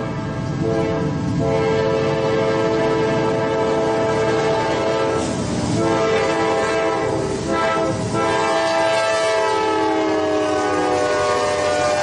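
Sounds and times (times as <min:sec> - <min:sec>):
train horn chord: 0:00.0 - 0:12.0.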